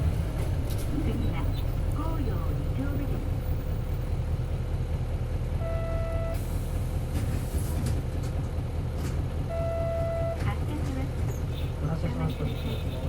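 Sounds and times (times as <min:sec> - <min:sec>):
diesel bus engine running: 0:00.0 - 0:13.0.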